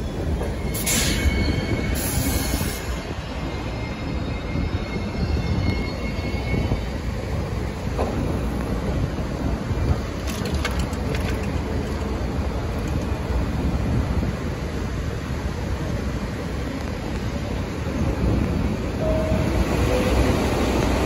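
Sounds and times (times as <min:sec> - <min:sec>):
subway car rumble and hiss: 0:00.0 - 0:21.0.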